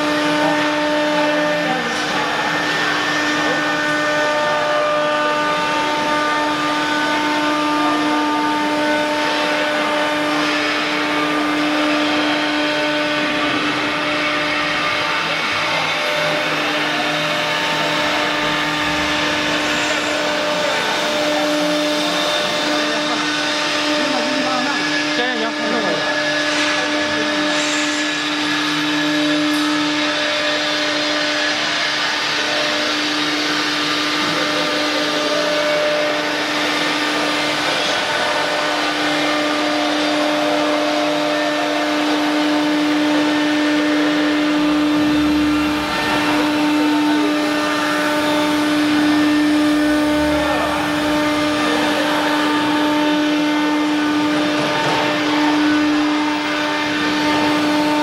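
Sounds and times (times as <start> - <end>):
noisy cutting rush: 0.0 - 58.0
router spindle whining: 0.0 - 58.0.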